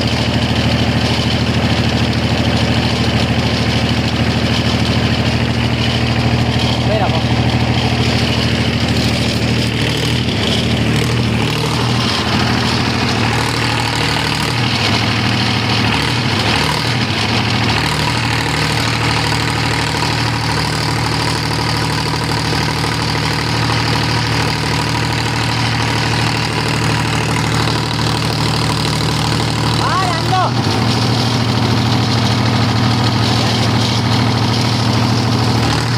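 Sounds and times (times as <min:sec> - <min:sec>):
diesel generator engine running: 0:00.0 - 0:35.9.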